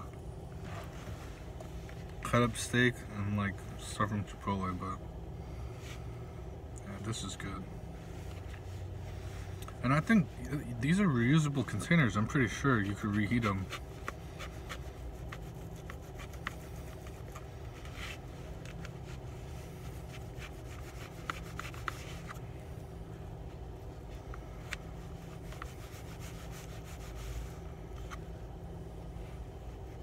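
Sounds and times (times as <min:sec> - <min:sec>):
low hum inside car: 0:00.0 - 0:30.0.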